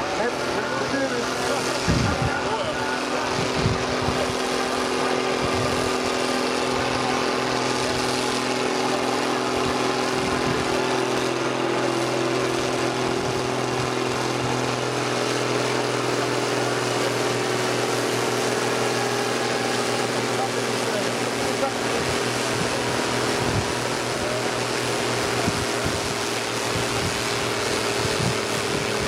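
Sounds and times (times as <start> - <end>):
tractor diesel engines droning: 0.0 - 29.0.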